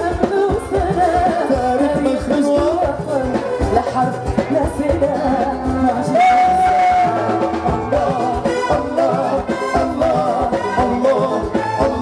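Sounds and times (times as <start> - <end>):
band with percussion: 0.0 - 12.0
man and woman singing: 0.0 - 12.0.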